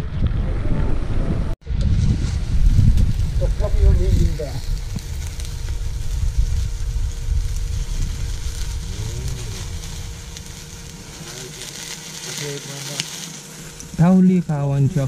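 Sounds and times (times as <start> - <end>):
low rumble: 0.0 - 15.0
wood fire crackling and hissing: 1.6 - 15.0.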